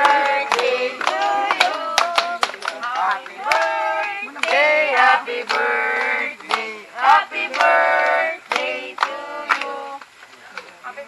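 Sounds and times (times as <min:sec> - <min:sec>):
group of people singing: 0:00.0 - 0:10.2
hand claps: 0:00.0 - 0:10.7.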